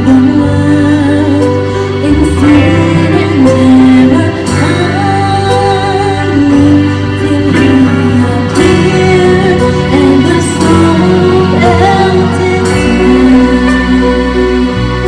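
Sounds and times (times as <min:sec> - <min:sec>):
instrumental accompaniment: 0:00.0 - 0:15.0
woman singing into a microphone: 0:00.0 - 0:15.0.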